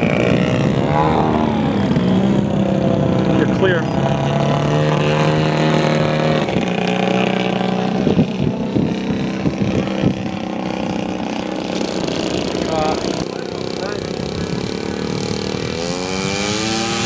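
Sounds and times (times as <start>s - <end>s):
two-stroke model engine at low throttle: 0.0s - 17.0s.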